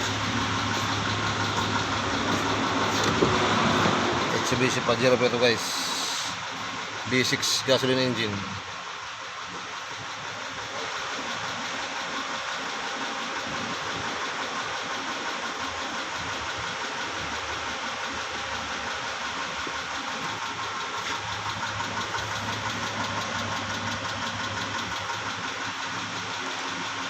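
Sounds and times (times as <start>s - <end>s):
engine running: 0.0s - 27.0s
repetitive engine knock: 0.0s - 27.0s.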